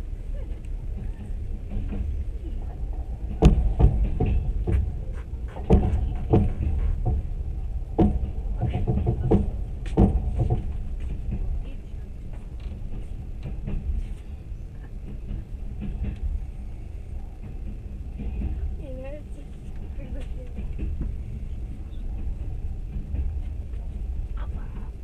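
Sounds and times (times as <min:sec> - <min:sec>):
train low rumble: 0:00.0 - 0:25.0
train running gear clatter: 0:00.0 - 0:25.0.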